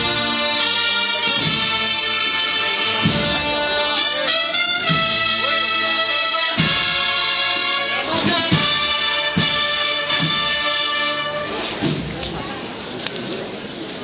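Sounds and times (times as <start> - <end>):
drum strikes: 0.0 - 3.9, 4.5 - 12.5
brass band playing a march: 0.0 - 12.4.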